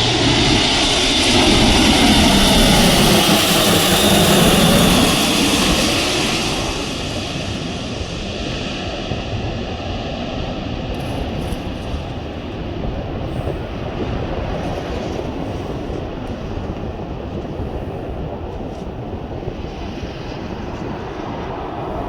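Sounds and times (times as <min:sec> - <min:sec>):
turboprop engines rumbling: 0:00.0 - 0:22.0.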